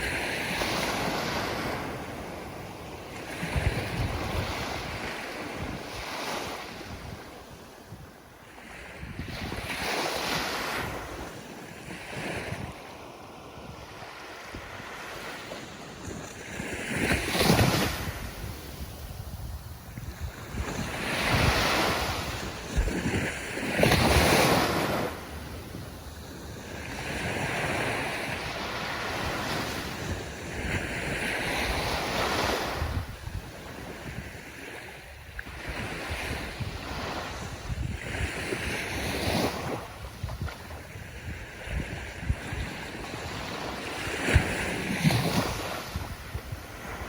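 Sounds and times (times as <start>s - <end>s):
ocean waves breaking on shore: 0.0s - 47.0s.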